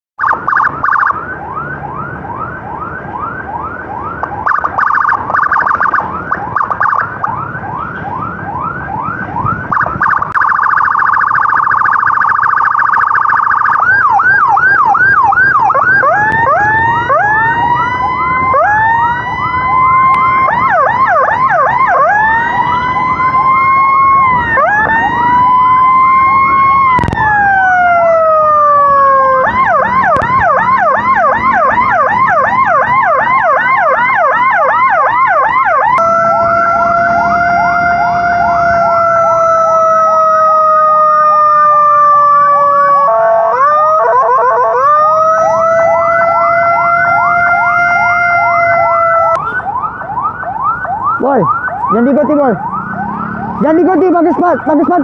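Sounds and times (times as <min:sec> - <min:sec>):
electronic emergency siren: 0:00.2 - 0:55.0.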